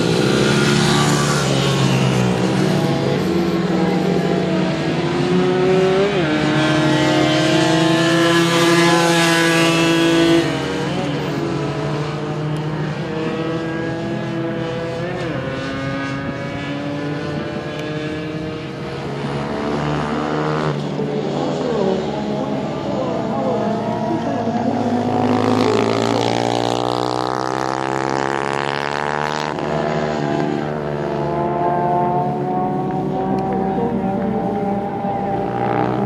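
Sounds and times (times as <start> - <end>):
racing motorcycles revving: 0.0 - 36.0.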